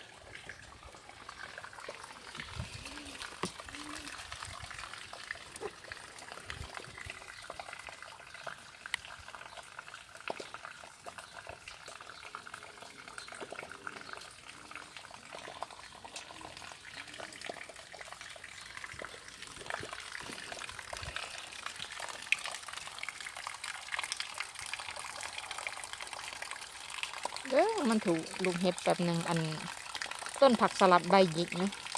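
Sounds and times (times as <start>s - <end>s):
rain patters and drips: 0.0s - 31.9s.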